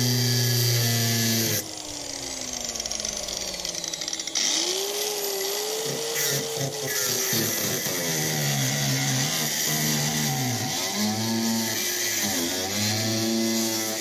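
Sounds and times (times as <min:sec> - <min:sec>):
angle grinder on sheet steel: 0:00.0 - 0:14.0.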